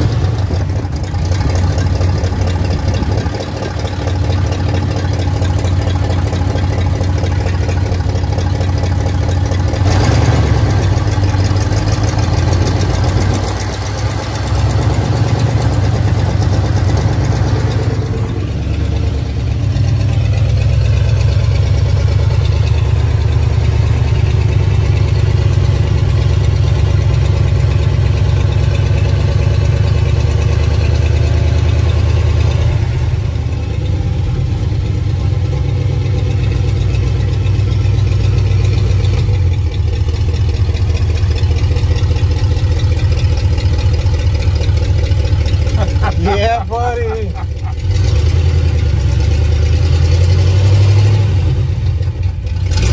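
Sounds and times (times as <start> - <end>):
pickup truck engine running: 0.0 - 52.9.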